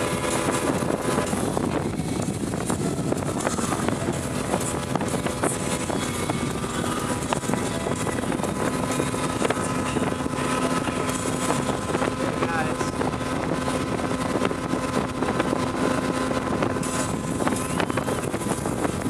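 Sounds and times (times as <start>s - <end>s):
outboard motor running: 0.0s - 19.0s
rush of wind and water: 0.0s - 19.0s.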